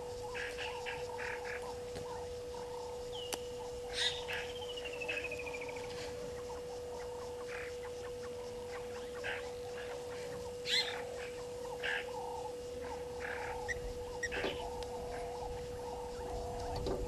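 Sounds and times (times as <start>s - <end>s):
birds chattering: 0.0s - 17.0s
faint steady tone: 0.0s - 17.0s
sharp bird calls: 0.0s - 17.0s.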